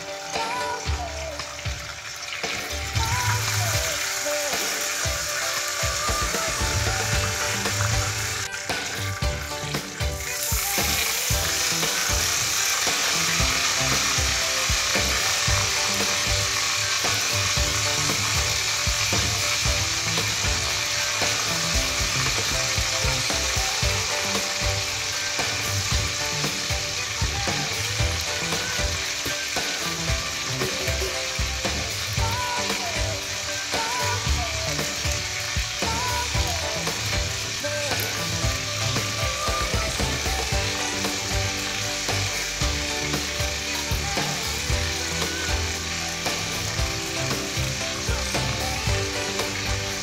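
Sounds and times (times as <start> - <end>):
chicken sizzling in hot oil: 0.0 - 50.0.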